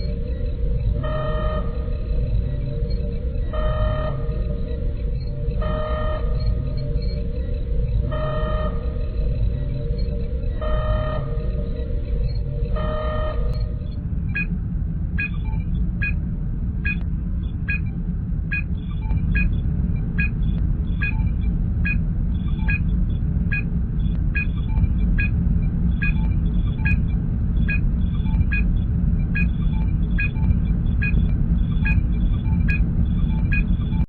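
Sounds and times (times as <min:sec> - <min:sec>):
electronic computer chirps: 0:00.0 - 0:14.5, 0:15.2 - 0:16.2, 0:16.8 - 0:34.0
low engine rumble: 0:00.0 - 0:34.0.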